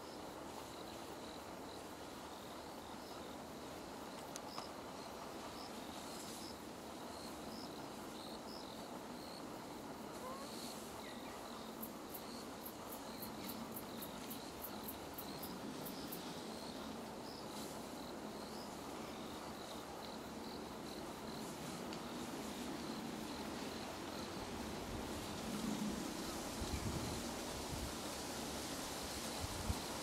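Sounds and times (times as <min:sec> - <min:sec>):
insects chirping: 0:00.0 - 0:30.0
steady outdoor hiss: 0:00.0 - 0:30.0.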